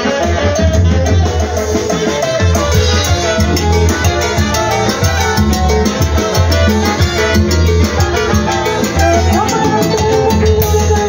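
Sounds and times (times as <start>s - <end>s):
live latin dance band: 0.0s - 11.0s.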